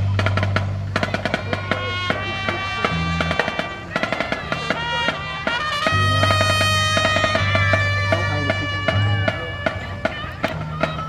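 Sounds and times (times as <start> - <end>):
low brass bass line: 0.0 - 11.0
steady drum beat: 0.0 - 11.0
trumpets holding notes: 0.0 - 11.0.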